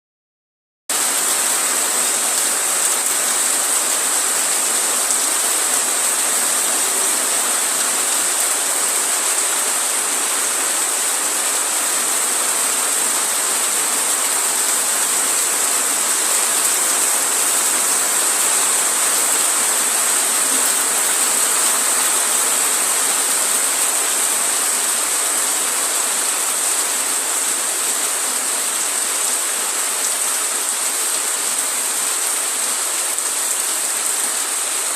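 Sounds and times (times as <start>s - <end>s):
steady rain falling: 0.9s - 34.9s.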